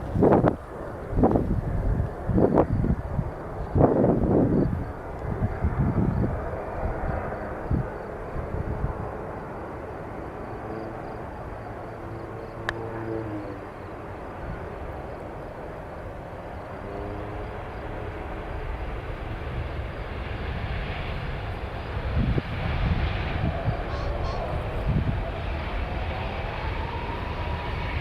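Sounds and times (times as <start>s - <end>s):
aircraft engine rumble: 0.0s - 28.0s.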